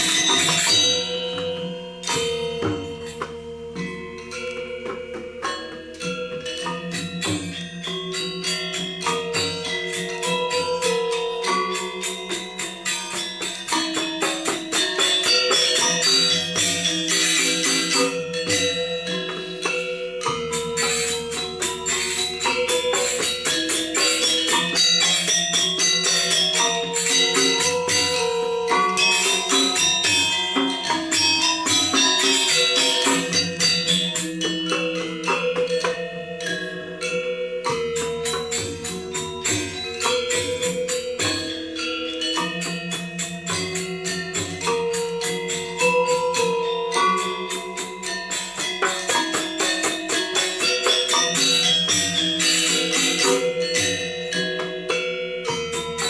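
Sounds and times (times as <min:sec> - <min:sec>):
gamelan playing: 0:00.0 - 0:56.0
jingling percussion strokes: 0:00.0 - 0:56.0.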